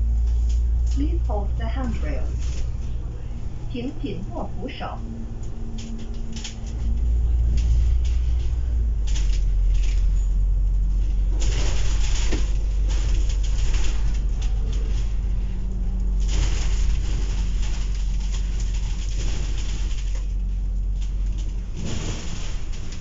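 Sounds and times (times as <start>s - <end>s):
bus engine and road rumble: 0.0s - 23.0s.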